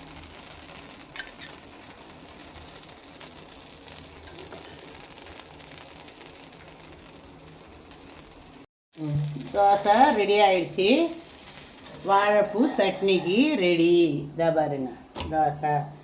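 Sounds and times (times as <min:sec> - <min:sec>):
dosa sizzling on a hot griddle: 0:00.0 - 0:14.2.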